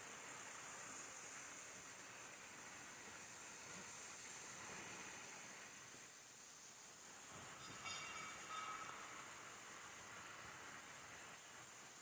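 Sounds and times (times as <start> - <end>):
high hiss: 0.0 - 12.0.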